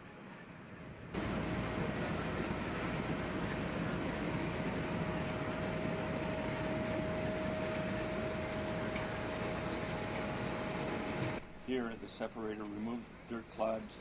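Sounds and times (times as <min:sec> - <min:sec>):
constant machine whine: 0:00.0 - 0:14.0
conveyor rumbling and rattling: 0:00.1 - 0:14.0.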